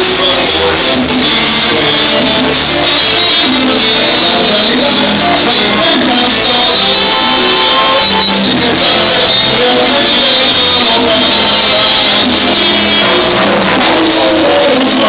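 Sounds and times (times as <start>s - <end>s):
live salsa band playing: 0.0s - 15.0s.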